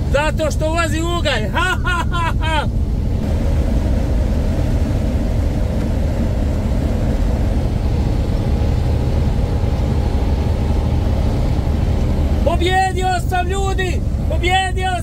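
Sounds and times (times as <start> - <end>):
diesel truck engine rumbling: 0.0 - 15.0
road noise: 0.0 - 15.0.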